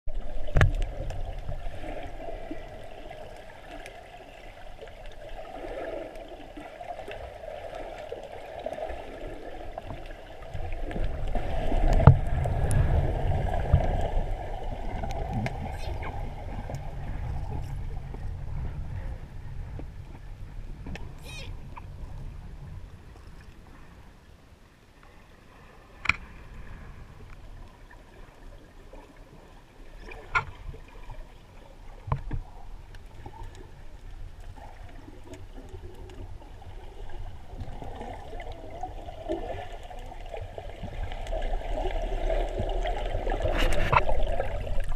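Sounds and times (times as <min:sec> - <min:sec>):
muffled underwater rumble: 0:00.1 - 0:44.9
water noise: 0:00.1 - 0:44.9.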